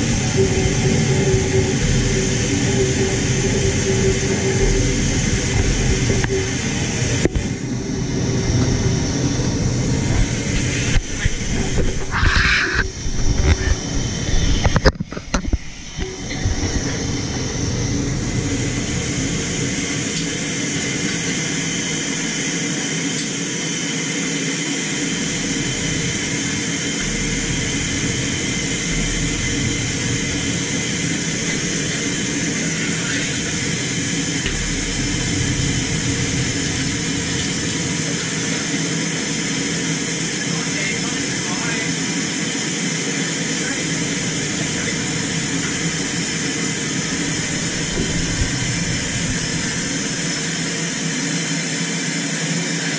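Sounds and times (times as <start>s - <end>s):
loud rush of air: 0.0s - 52.4s.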